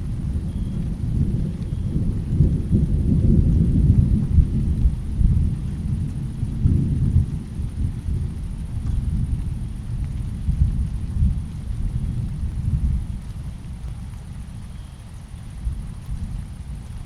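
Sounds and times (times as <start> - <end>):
rolling thunder: 0.0 - 14.6
faint rain hiss: 0.0 - 17.0.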